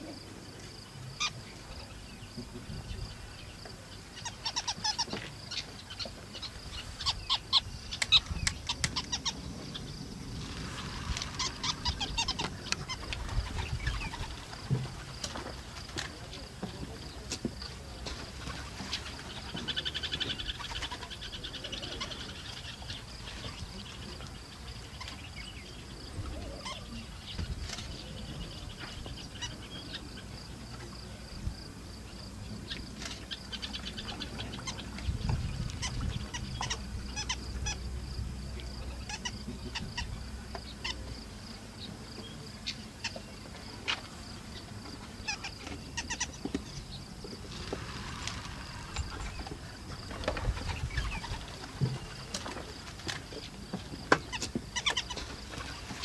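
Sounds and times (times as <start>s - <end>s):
wild birds calling: 0.0s - 56.0s.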